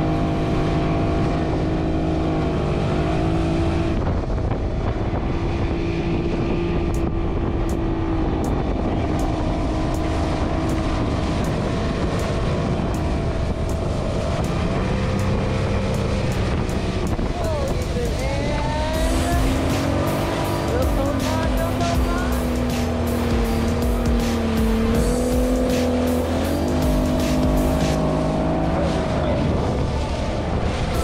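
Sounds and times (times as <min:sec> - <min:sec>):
motorboat engine running: 0:00.0 - 0:31.0
wind and water rushing: 0:00.0 - 0:31.0.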